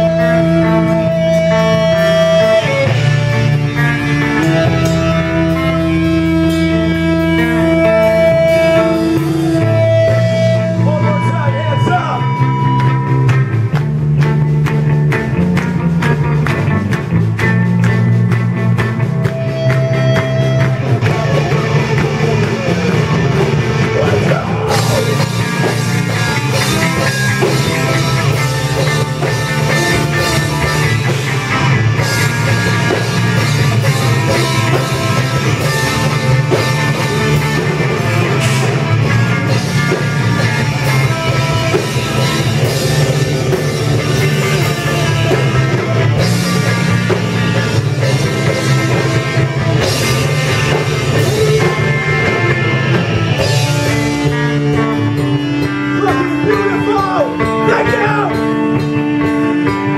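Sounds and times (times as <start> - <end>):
drum kit: 0.0 - 59.9
electric bass: 0.0 - 59.9
electric guitars: 0.0 - 59.9.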